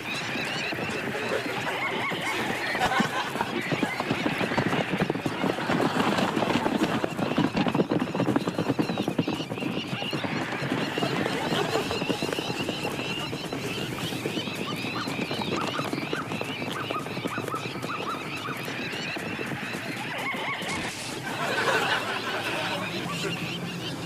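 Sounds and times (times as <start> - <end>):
hoof clatter: 0.0 - 24.0
quick chirping calls: 0.0 - 24.0.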